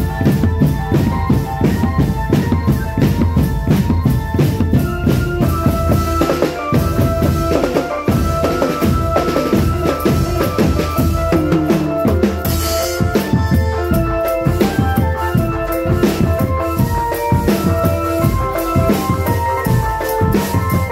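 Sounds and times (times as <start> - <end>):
bass and snare drums beating: 0.0 - 20.9
melody line: 0.0 - 20.9.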